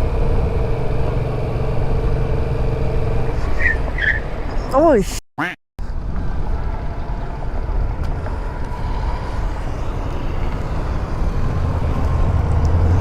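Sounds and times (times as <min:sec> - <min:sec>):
wind and road noise: 0:00.0 - 0:05.2, 0:05.8 - 0:13.0.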